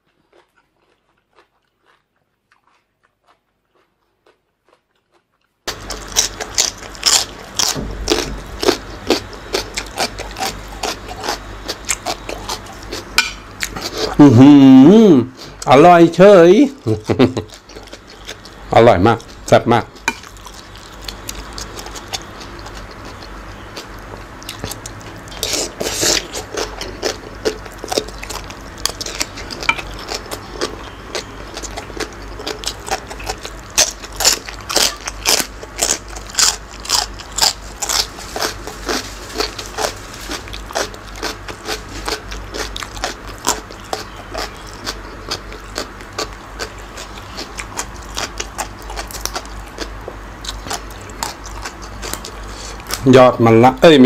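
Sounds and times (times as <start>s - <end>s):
man chewing crunchy vegetables: 0.0s - 53.1s.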